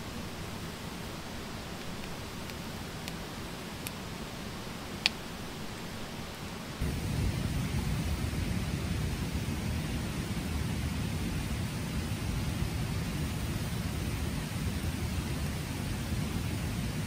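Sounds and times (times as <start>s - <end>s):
steady low rush: 0.0s - 17.0s
wood fire crackling: 0.0s - 17.0s.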